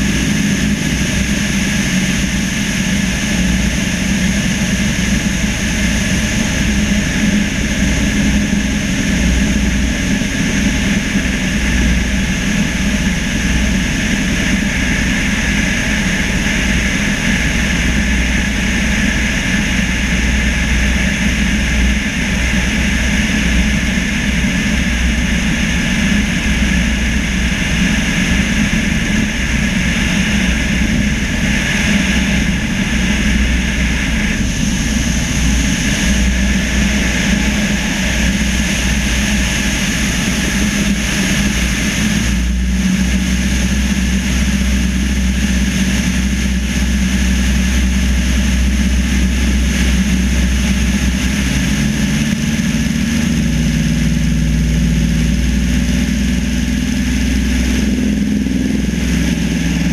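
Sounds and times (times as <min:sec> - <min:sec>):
propeller airplane engine drone: 0:00.0 - 0:59.9.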